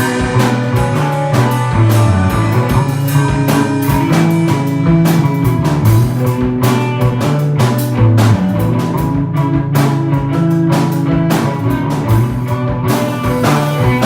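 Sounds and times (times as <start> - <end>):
bass guitar: 0.0 - 14.0
drum kit hits: 0.0 - 14.0
electric guitar: 0.0 - 14.0.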